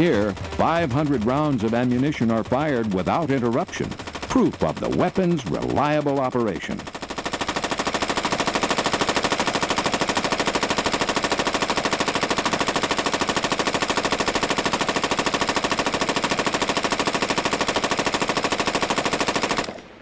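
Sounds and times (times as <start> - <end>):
machine gun firing rapid burst: 0.0 - 19.8.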